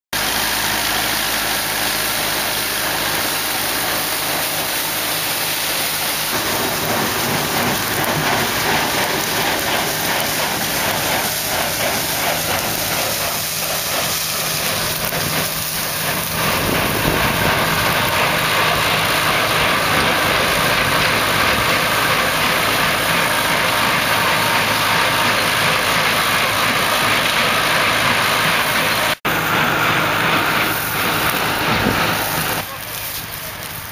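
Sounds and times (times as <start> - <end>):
tractor engine running: 0.1 - 33.9
baler machinery noise: 0.2 - 33.9.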